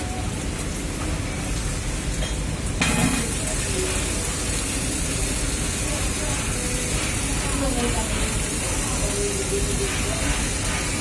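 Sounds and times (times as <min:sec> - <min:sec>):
welding arc crackling and sizzling: 0:00.0 - 0:11.0.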